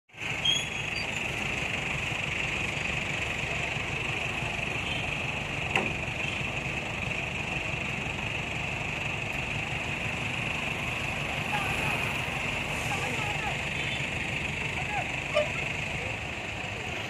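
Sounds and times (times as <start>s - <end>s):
crane engines running: 0.1s - 17.0s.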